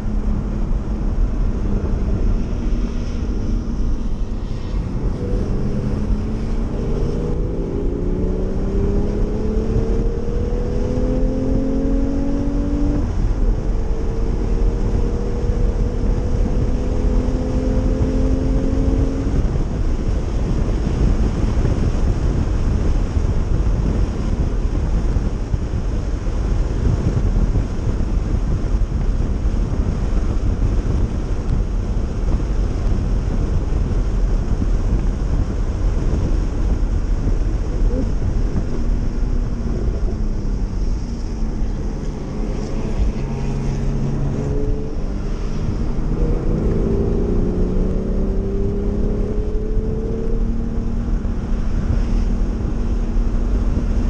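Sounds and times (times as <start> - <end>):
car engine accelerating: 0.0 - 54.0
tyre road and wind noise: 0.0 - 54.0.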